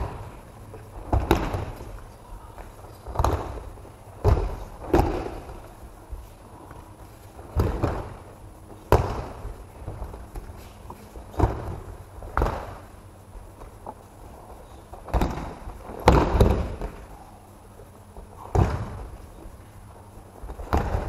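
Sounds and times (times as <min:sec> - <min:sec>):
bodies thudding on mats: 0:00.0 - 0:12.9, 0:14.9 - 0:17.1, 0:18.2 - 0:19.6, 0:20.4 - 0:21.0.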